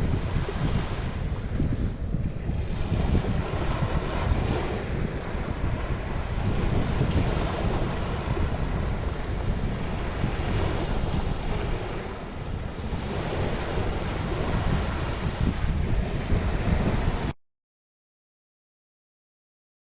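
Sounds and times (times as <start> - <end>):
surf breaking on beach: 0.0 - 17.3
wind buffeting microphone: 0.0 - 17.4.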